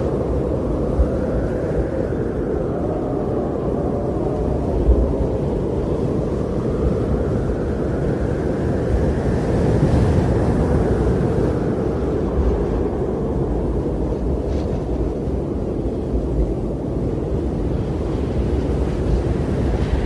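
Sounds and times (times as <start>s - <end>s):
strong blizzard wind: 0.0s - 20.0s.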